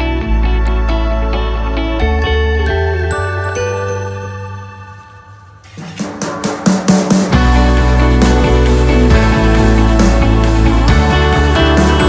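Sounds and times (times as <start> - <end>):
background music with deep bass: 0.0 - 12.0.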